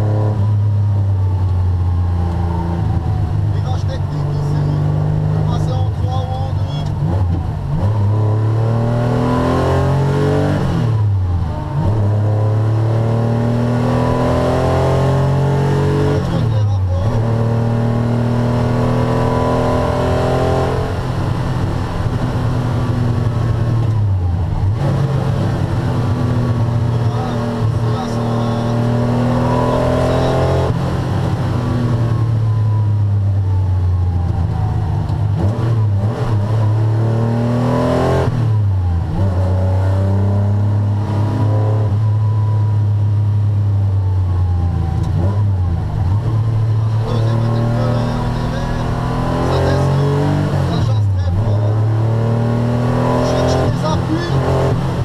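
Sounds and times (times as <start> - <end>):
car engine revving from cabin: 2.1 - 32.5, 34.3 - 43.8, 44.8 - 55.0.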